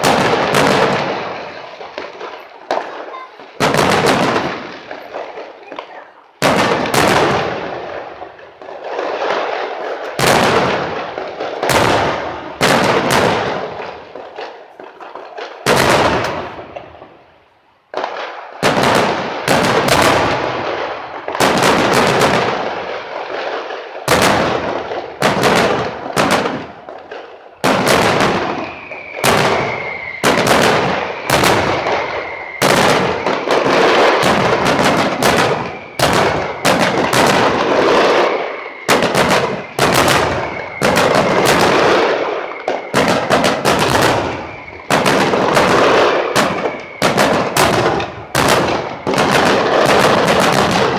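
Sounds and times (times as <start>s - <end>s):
fireworks shells bursting: 0.0s - 17.2s, 17.9s - 50.9s.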